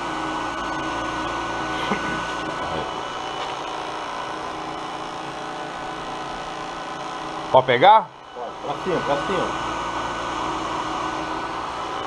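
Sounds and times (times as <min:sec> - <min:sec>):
cotton candy machine whirring: 0:00.0 - 0:12.0.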